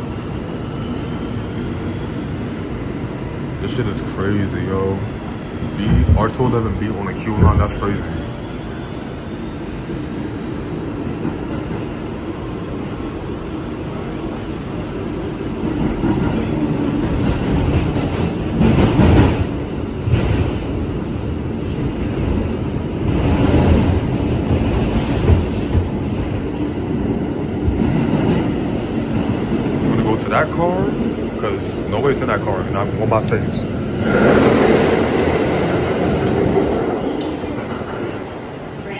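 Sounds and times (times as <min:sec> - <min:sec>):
subway wheels rumbling on rail: 0:00.0 - 0:38.9.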